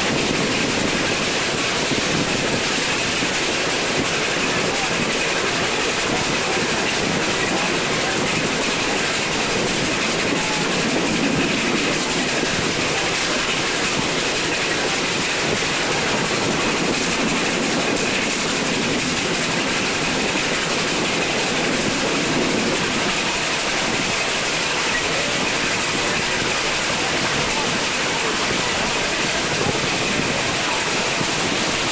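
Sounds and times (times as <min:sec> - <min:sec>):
wheels on rail: 0:00.0 - 0:31.9.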